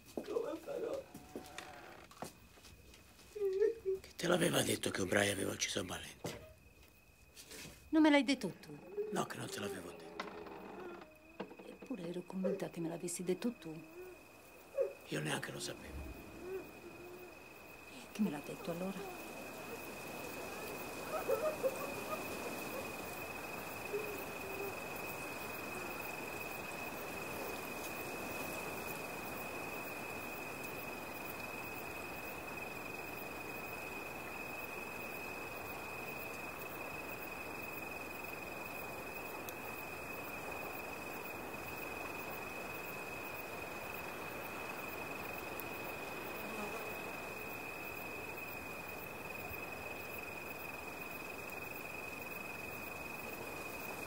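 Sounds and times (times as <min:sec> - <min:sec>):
crickets trilling: 0:00.0 - 0:54.0
soft steady hiss: 0:00.0 - 0:54.0.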